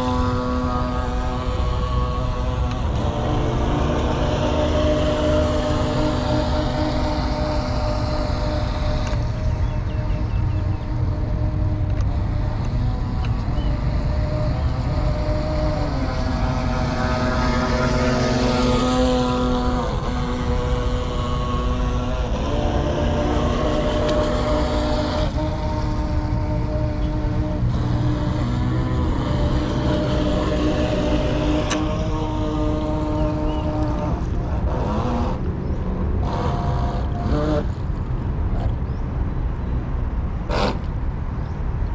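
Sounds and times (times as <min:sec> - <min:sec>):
model boat motor whining: 0:00.0 - 0:41.9.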